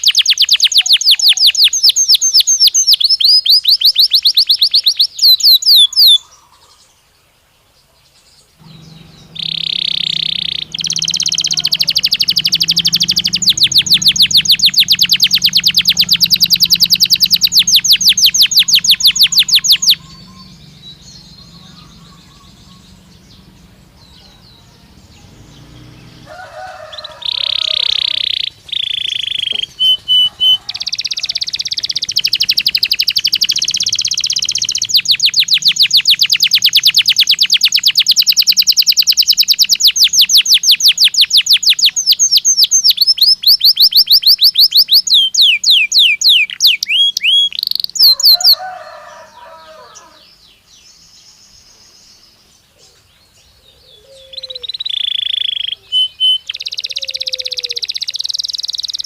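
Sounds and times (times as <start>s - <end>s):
canary singing with trills: 0.0s - 7.0s, 8.3s - 59.0s.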